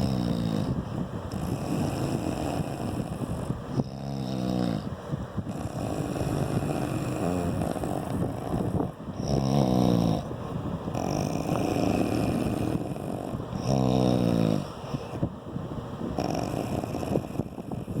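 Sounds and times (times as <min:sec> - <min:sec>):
loud buzzing snores: 0:00.0 - 0:15.2, 0:16.1 - 0:18.0
rough breathing: 0:00.0 - 0:15.3, 0:16.1 - 0:18.0.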